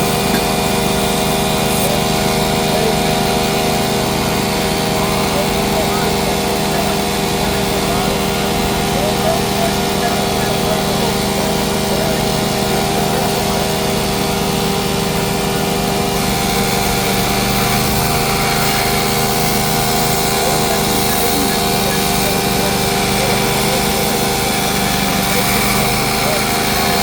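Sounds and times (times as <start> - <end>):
shop machinery droning: 0.0 - 27.0.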